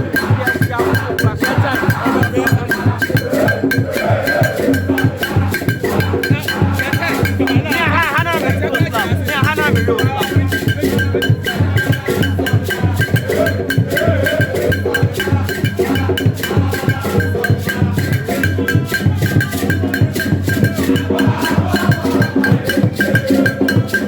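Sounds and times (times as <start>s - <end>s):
music with percussion beat: 0.0s - 24.0s.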